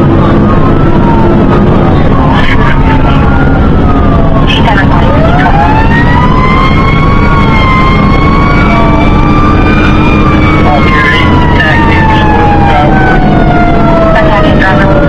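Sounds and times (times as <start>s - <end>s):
fire engine siren wailing: 0.0s - 15.0s
truck engine rumble: 0.0s - 15.0s.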